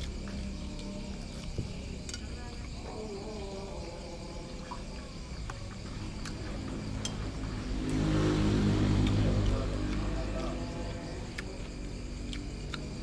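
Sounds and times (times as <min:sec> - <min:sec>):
low droning hum: 0:00.0 - 0:13.0
night insects chirping: 0:00.0 - 0:13.0.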